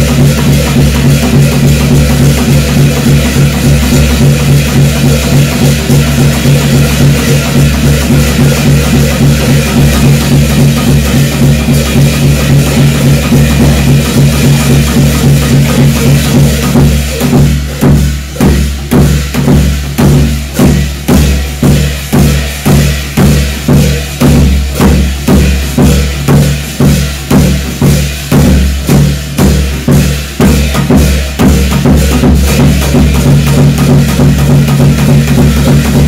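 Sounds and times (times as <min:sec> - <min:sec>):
drums struck in steady beat: 0:00.0 - 0:36.0.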